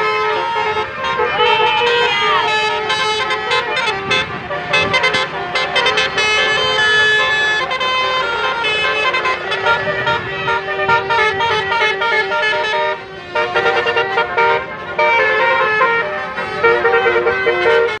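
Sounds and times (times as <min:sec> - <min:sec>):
bus multi-tone horn tune: 0:00.0 - 0:18.0.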